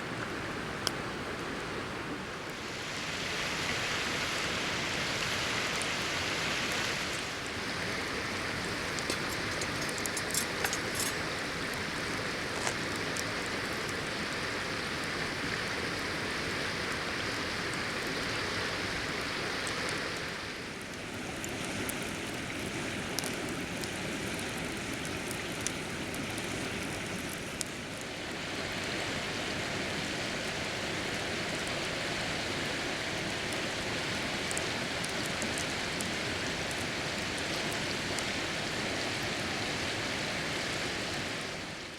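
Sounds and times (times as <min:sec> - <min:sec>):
hiss of flowing water: 0:00.0 - 0:41.9.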